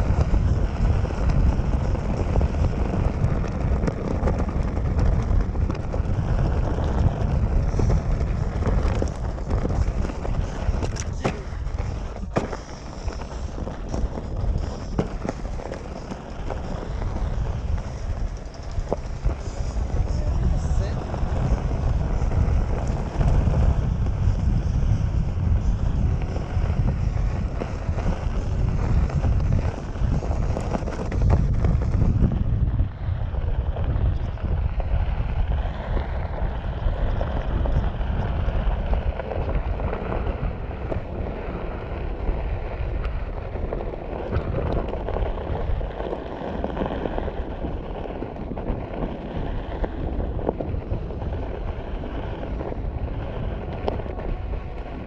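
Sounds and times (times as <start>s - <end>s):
tyre rolling on gravel: 0.0s - 55.0s
wind buffeting microphone: 0.0s - 55.0s.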